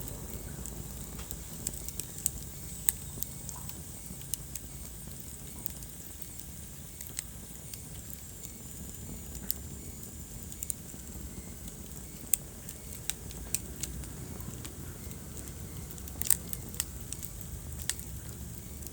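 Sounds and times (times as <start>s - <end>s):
fire crackling and popping: 0.0s - 18.9s
fire rumbling: 0.0s - 18.9s.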